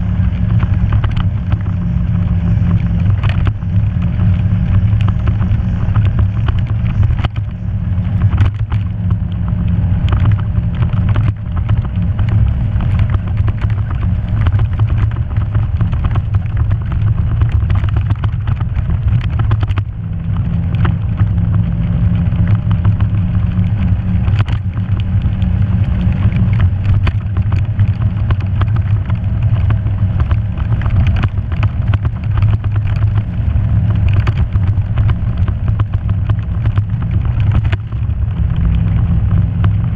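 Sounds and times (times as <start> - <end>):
knocks and rattles: 0.0 - 39.9
off-road vehicle engine droning: 0.0 - 39.9.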